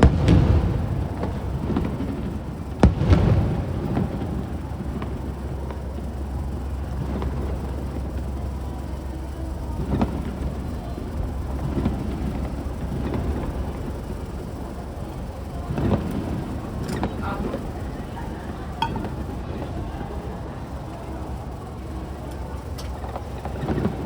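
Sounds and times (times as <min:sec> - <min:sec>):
fireworks booming: 0:00.0 - 0:19.7
steady low rumble: 0:00.0 - 0:24.0.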